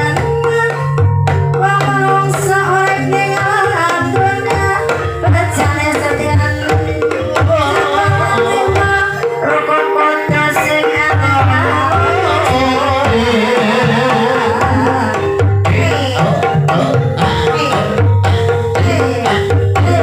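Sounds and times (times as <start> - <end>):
hand drums: 0.0 - 20.0
ringing metallophones: 0.0 - 20.0
wavering melody line: 0.0 - 20.0.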